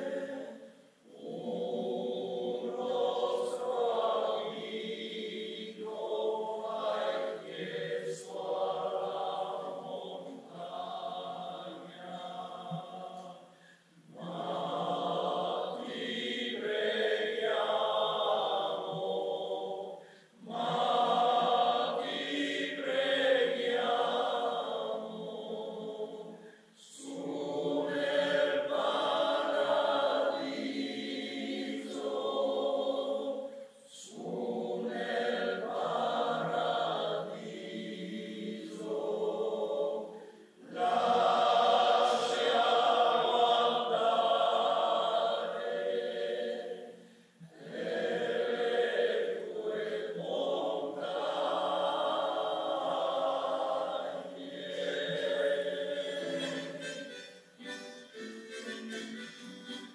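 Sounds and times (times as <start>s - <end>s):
choir singing: 0.0s - 13.5s, 14.1s - 59.9s.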